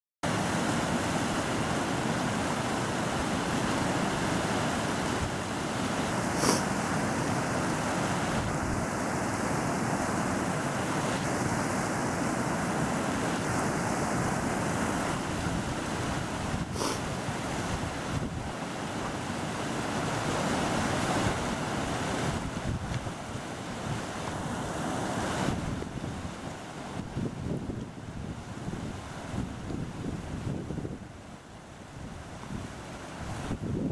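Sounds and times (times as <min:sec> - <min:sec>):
water rushing over rocks: 0:00.3 - 0:33.9.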